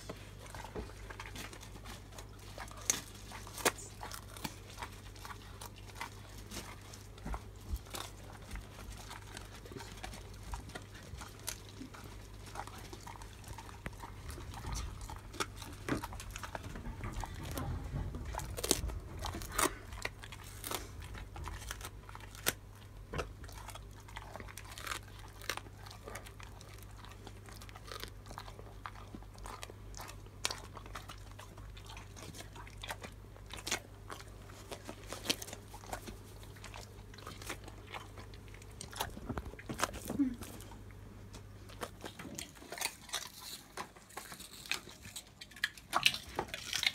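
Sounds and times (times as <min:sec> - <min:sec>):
dog crunching a treat: 0:00.0 - 0:46.9.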